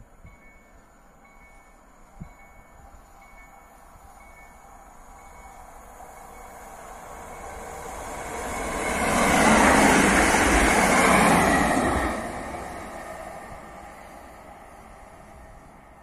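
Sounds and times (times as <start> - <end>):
train wheels rumbling and hissing: 0.0 - 16.0.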